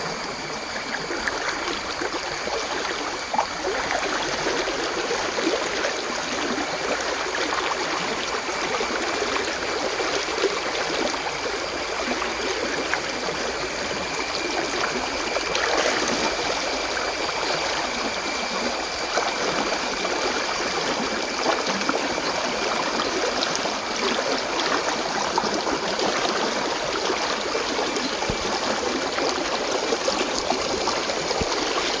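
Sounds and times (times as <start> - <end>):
stream babbling over stones: 0.2 - 32.0.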